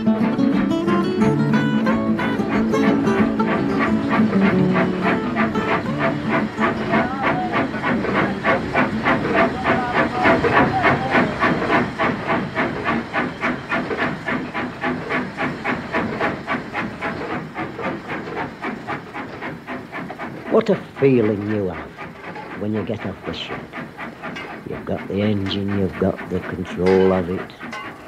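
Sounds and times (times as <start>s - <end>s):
steam locomotive chuffing: 0.0s - 28.0s
steam hiss: 0.4s - 28.0s.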